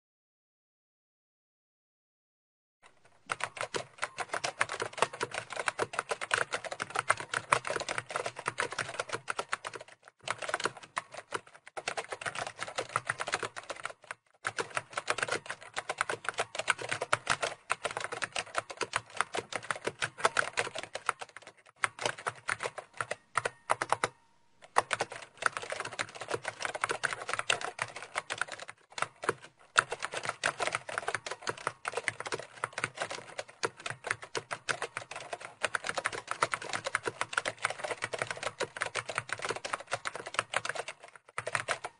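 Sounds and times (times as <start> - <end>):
typing on a computer keyboard: 2.8 - 41.9.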